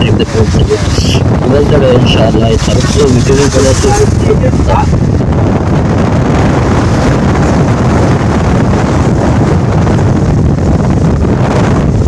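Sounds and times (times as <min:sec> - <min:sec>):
moving vehicle rumble: 0:00.0 - 0:12.0
wind buffeting microphone: 0:00.0 - 0:12.0.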